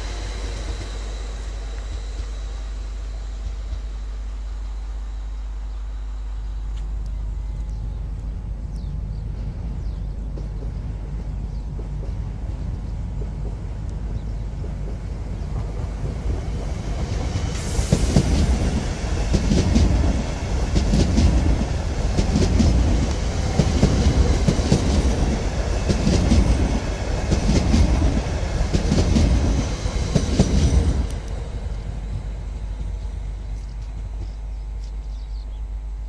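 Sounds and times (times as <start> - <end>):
train wheels clicking on rail joints: 0.0 - 4.7, 6.7 - 35.6
steady rushing noise: 0.0 - 34.4.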